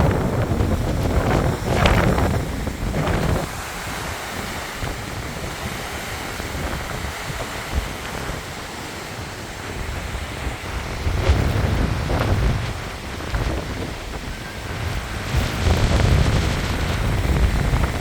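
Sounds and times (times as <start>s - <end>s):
strong wind buffeting microphone: 0.0s - 18.0s
wind rushing hiss: 0.0s - 18.0s.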